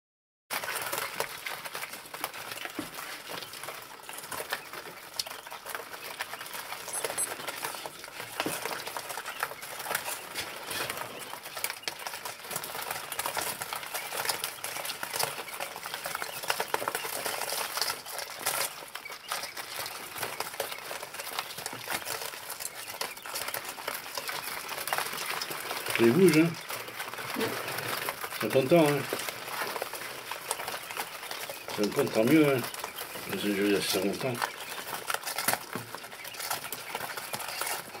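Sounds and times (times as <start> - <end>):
chicks pecking and scratching: 0.5 - 38.0
chicks peeping: 0.5 - 38.0.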